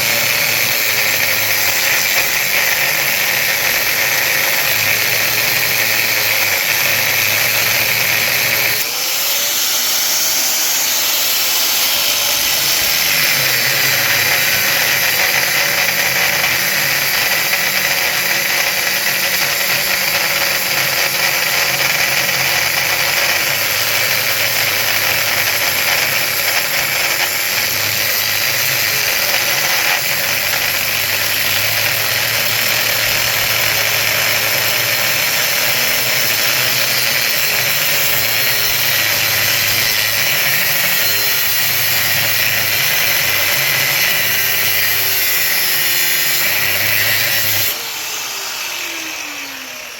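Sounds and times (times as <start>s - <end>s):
power tool cutting metal casing: 0.0s - 49.9s.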